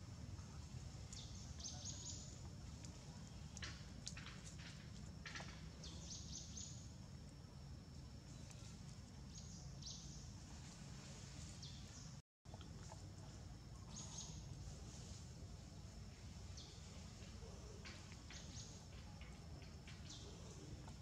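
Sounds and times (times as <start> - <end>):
low steady rumble: 0.0 - 21.0
small birds chirping: 0.2 - 15.1, 15.7 - 21.0.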